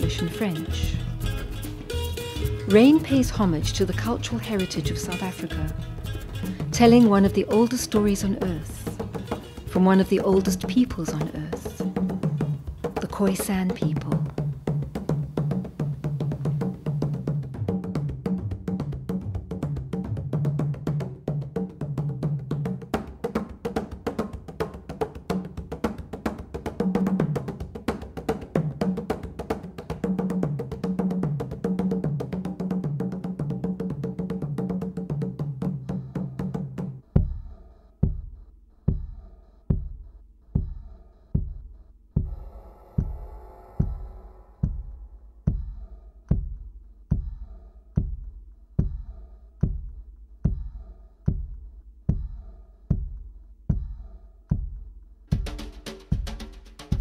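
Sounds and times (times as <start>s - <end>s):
deep drum beats: 0.0s - 57.0s
percussion-driven music: 0.0s - 57.0s.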